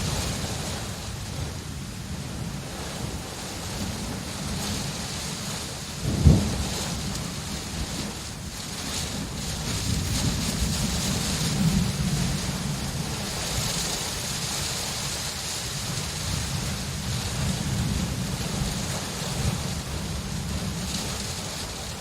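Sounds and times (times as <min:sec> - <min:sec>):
distant thunder rumble: 0:00.0 - 0:21.6
rain hissing: 0:00.0 - 0:22.0.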